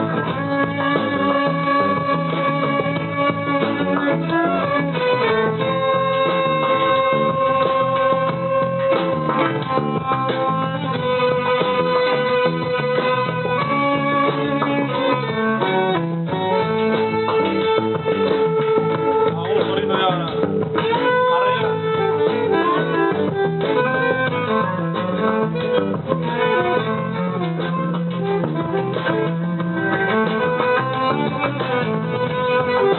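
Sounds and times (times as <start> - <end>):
melody of held notes: 0.0 - 32.9
plucked guitar: 0.0 - 32.9
small band playing live: 0.0 - 32.9.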